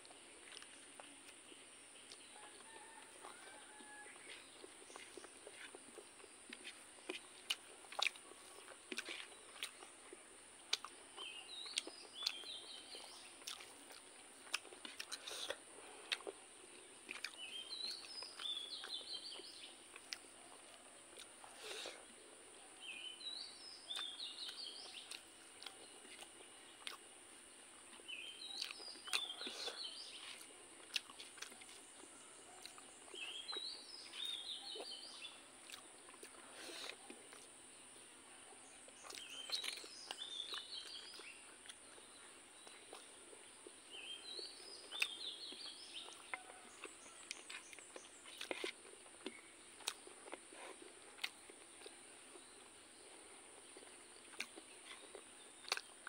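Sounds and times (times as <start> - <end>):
soft clicks of eating: 0.0 - 21.6, 23.9 - 27.1, 27.9 - 37.6, 38.5 - 52.8, 53.6 - 56.0
songbird chirping: 0.0 - 56.0.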